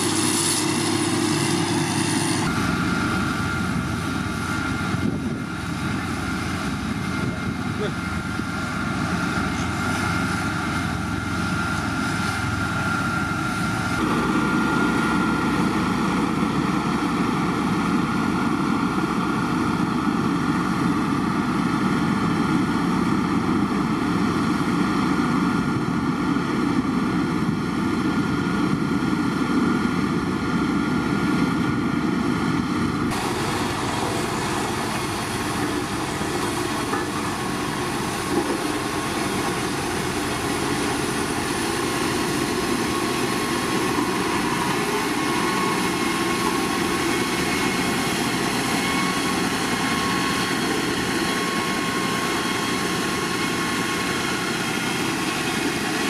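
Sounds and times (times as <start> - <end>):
road roller diesel engines: 0.0 - 56.0.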